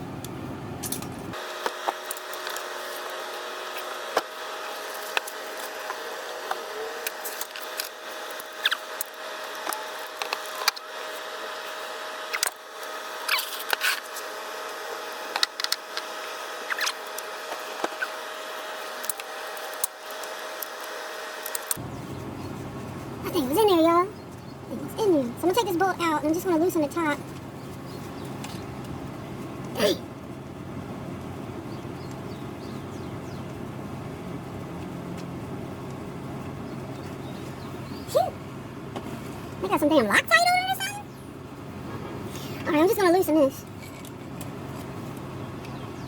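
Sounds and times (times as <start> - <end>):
steady hum: 0.0 - 46.0.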